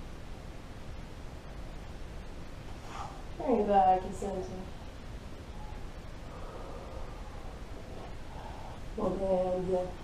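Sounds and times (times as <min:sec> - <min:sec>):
even hiss: 0:00.0 - 0:10.0.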